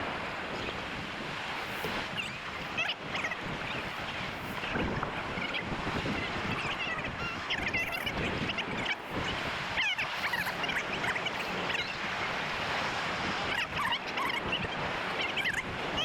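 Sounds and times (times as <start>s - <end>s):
surf: 0.0s - 16.0s
wind: 0.0s - 16.0s
flock of birds calling: 1.6s - 16.0s.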